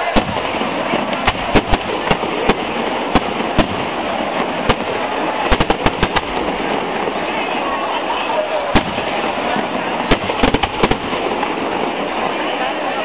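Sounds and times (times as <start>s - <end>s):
continuous background noise: 0.0s - 13.0s
fireworks bangs: 0.0s - 13.0s.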